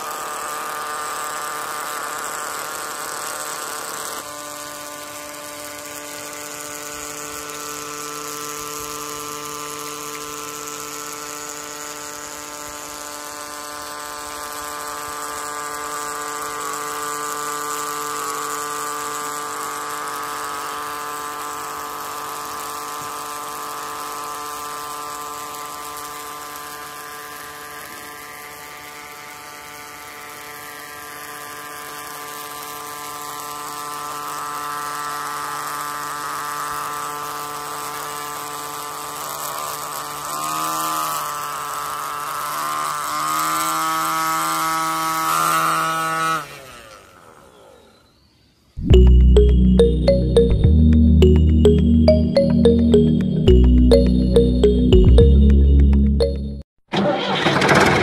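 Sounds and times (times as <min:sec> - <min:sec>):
small electric motor whining: 0:00.0 - 0:48.3.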